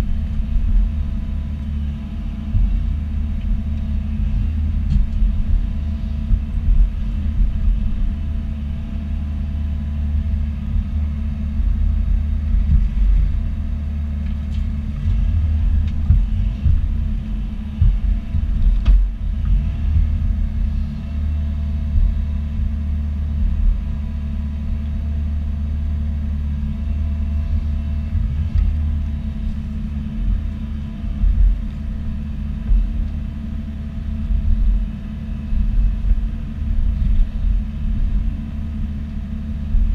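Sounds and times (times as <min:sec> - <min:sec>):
excavator diesel engine rumbling: 0:00.0 - 0:39.9
faint steady whine: 0:00.0 - 0:39.9.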